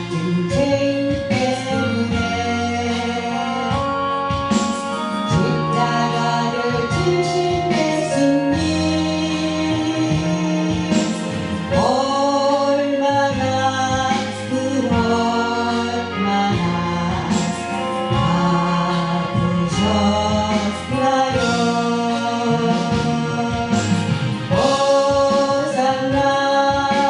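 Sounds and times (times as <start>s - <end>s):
worship song singing with instruments: 0.0s - 27.0s.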